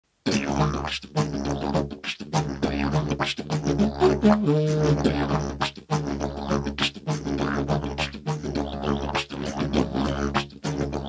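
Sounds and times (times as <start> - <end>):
didgeridoo drone: 0.3 - 11.0.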